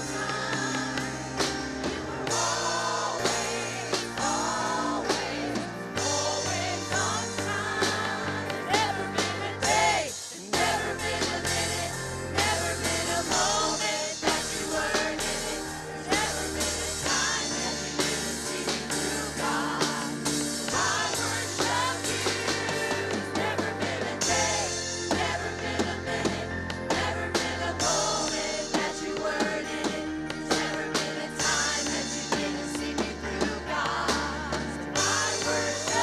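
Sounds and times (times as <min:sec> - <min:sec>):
drum kit: 0:00.0 - 0:36.0
people singing: 0:00.0 - 0:36.0
praise band playing: 0:00.0 - 0:36.0.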